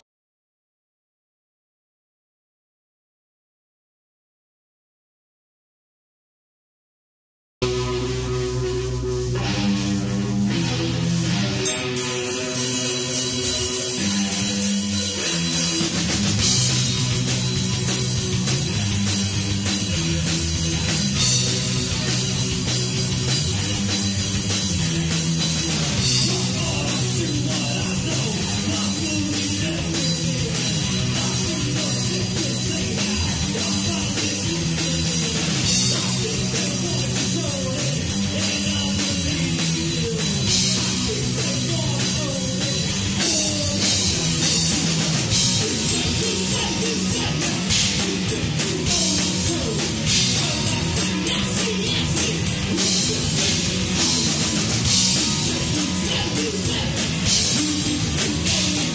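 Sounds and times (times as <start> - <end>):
drum kit: 7.6 - 58.9
electric bass: 7.6 - 58.9
electric guitar: 7.6 - 58.9.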